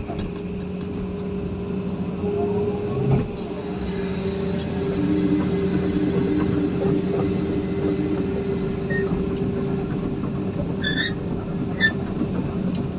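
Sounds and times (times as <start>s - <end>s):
heavy diesel engine droning: 0.1s - 12.2s.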